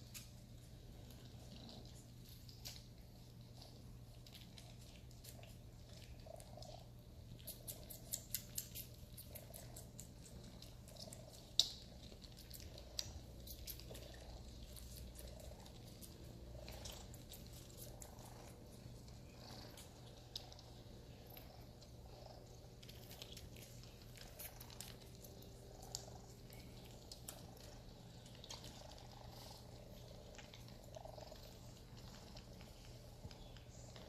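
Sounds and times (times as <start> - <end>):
kittens purring: 0.0 - 34.0
small clicks and scratches: 0.0 - 34.0.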